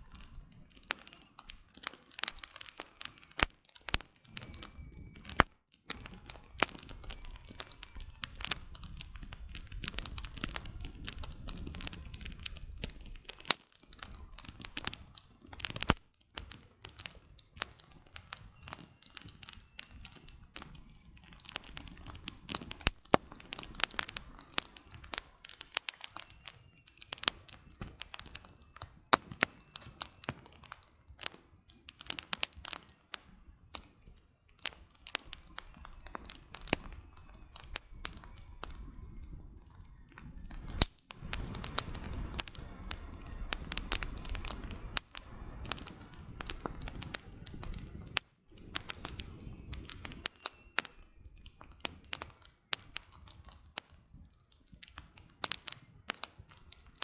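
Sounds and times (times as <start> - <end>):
low rush of flame: 0.0 - 54.2
firewood crackling and popping: 0.0 - 57.0.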